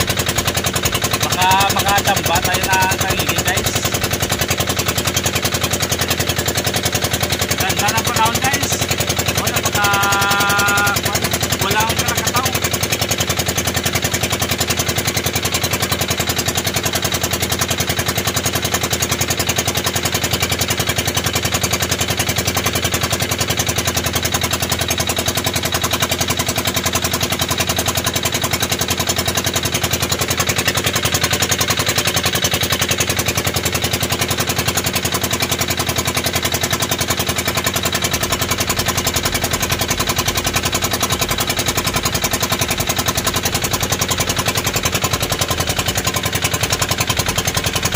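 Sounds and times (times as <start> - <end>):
boat engine rattling: 0.0 - 47.9.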